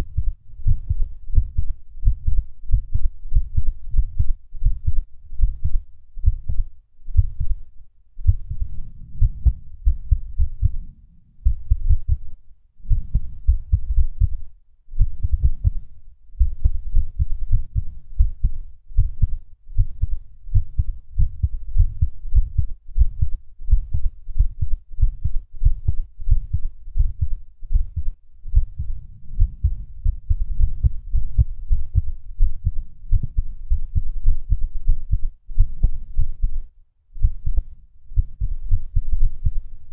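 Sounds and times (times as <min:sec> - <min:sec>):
irregular heartbeat: 0:00.0 - 0:39.9.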